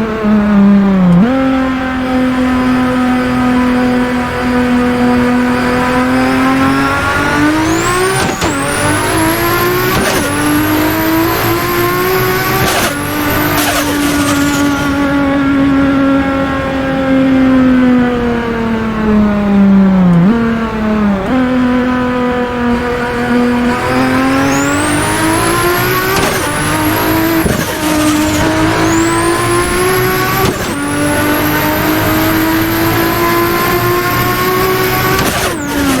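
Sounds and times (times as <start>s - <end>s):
car engine accelerating through gears: 0.0s - 36.0s.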